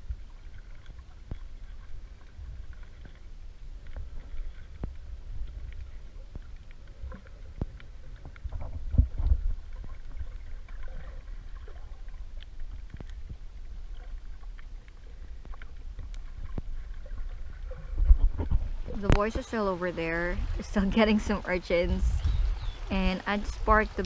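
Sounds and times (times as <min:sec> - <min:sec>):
underwater rumble of moving water: 0:00.0 - 0:24.0.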